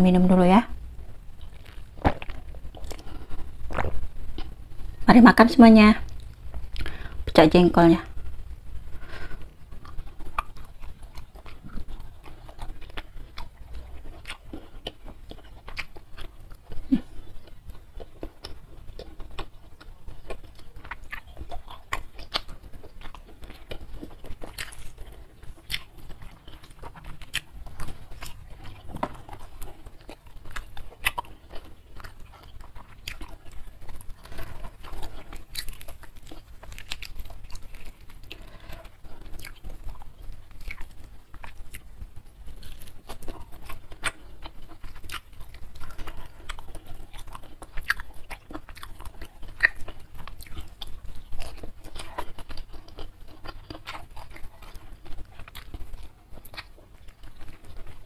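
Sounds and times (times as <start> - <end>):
close chewing and crunching: 0.0 - 58.0.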